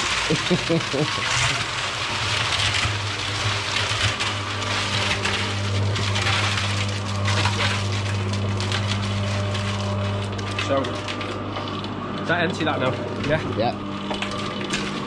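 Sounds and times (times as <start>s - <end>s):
cement mixer motor hum: 0.0s - 15.0s
wet concrete pouring: 0.0s - 15.0s.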